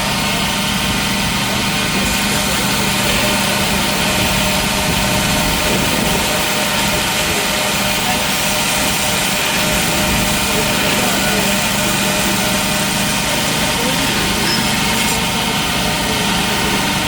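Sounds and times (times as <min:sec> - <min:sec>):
forge equipment roar: 0:00.0 - 0:17.0.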